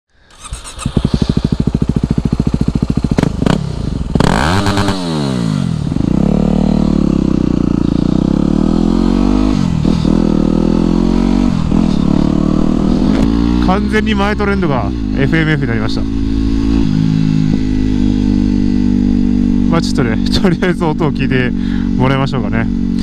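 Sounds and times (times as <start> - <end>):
motorcycle engine idling and revving: 0.2 - 23.0.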